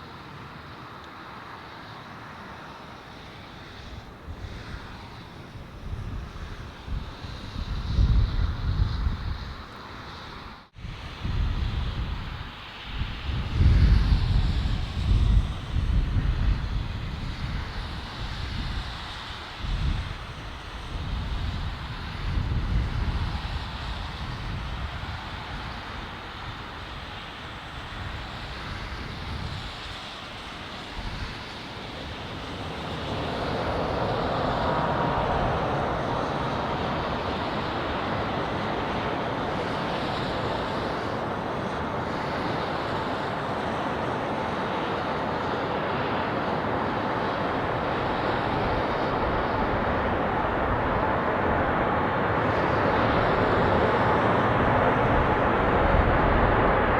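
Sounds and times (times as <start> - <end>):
jet engines roaring: 0.0 - 56.9
wind rumble on microphone: 3.3 - 56.9.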